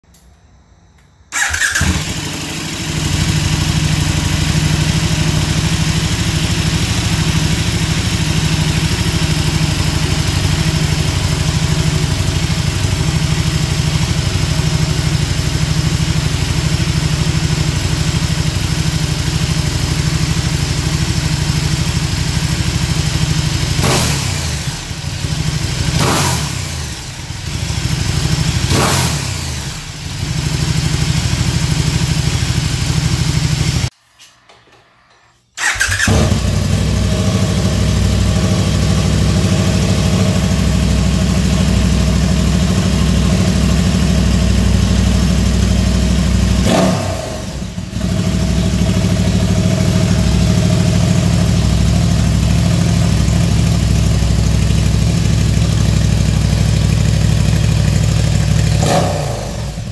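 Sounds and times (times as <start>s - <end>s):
motorcycle engine idling and revving: 1.3s - 33.9s, 35.6s - 59.9s.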